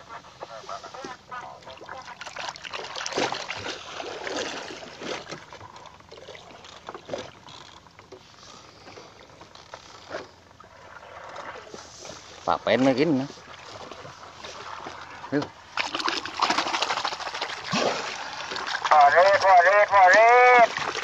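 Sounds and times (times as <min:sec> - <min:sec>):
water splashing against boat: 0:00.0 - 0:21.0.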